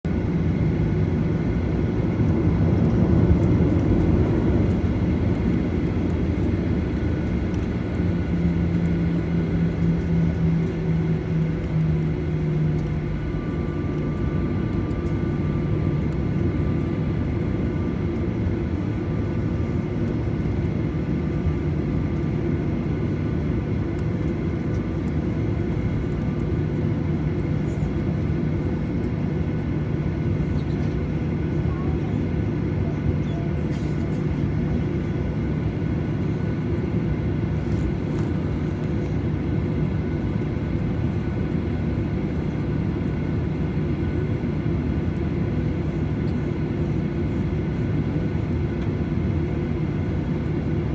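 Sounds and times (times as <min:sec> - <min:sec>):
jet engines roaring and whining: 0:00.1 - 0:50.9.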